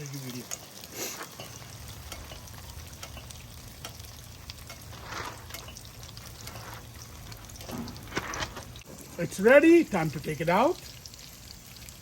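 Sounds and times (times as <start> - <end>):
deep-frying sizzle and pops: 0.0 - 12.0.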